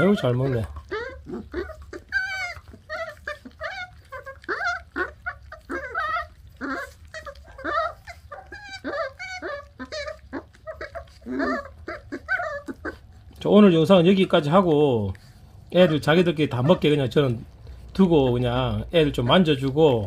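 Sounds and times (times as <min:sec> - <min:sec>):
puppies chewing and tearing meat: 0:00.0 - 0:20.0
puppies whimpering and grunting: 0:00.0 - 0:20.0.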